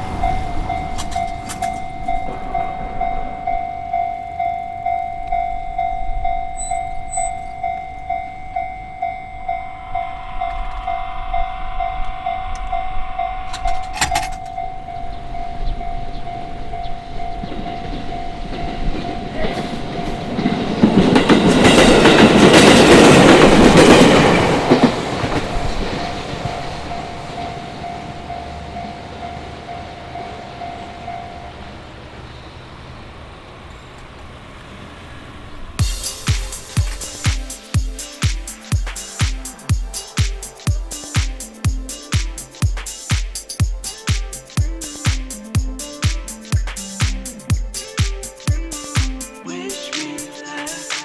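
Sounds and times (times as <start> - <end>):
level crossing alarm ringing: 0.0 - 32.8, 35.8 - 50.9
electric train passing: 0.0 - 51.0.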